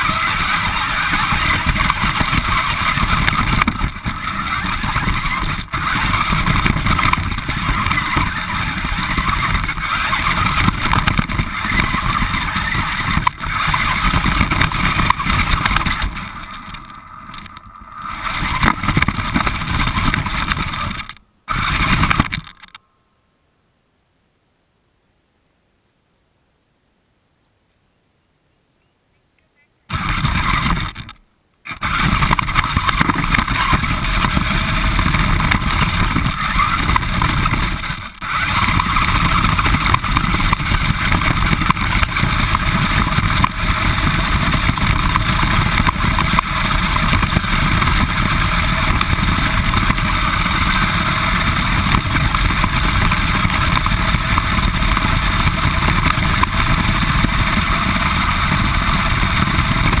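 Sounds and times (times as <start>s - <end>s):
rc car motor running: 0.0s - 22.8s, 29.9s - 60.0s
road and tyre noise: 0.0s - 23.9s, 29.1s - 60.0s.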